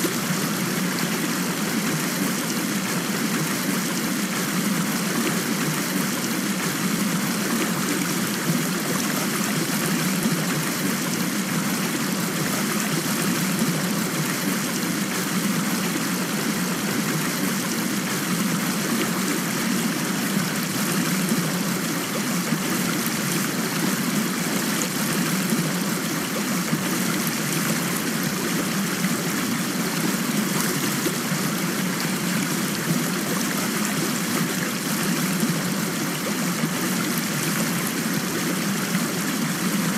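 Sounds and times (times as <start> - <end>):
rushing water hiss: 0.0 - 39.9.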